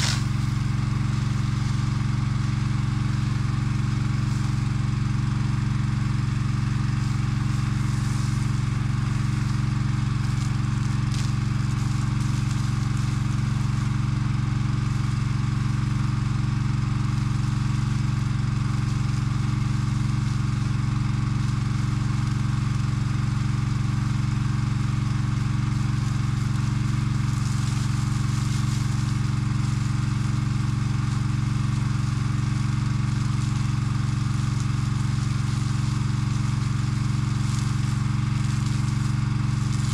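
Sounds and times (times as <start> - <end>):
water hose hissing: 0.0 - 15.8, 16.9 - 39.9
engine running steadily: 0.0 - 39.9.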